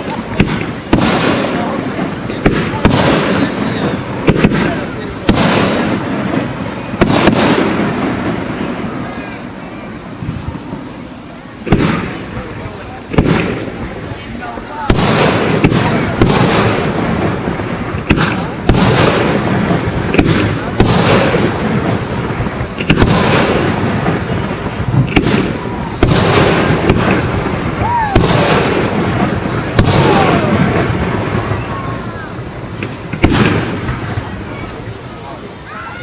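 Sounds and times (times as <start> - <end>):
fireworks booming: 0.0 - 36.0.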